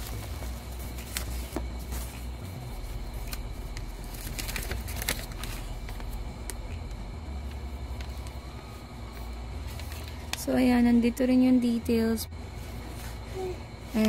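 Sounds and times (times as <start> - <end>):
plastic and paper rustling: 0.0 - 11.1, 12.6 - 14.0
low hum: 0.0 - 14.0.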